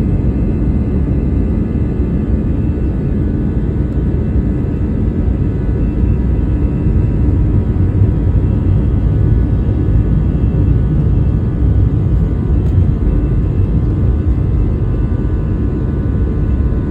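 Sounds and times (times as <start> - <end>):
airplane engines rumbling: 0.0 - 16.9.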